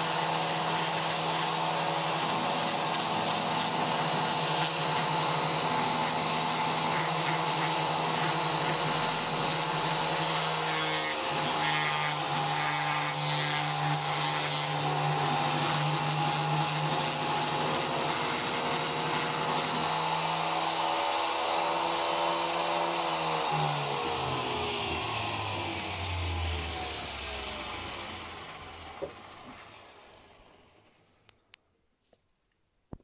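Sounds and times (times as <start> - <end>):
small electric motor running: 0.0 - 29.4.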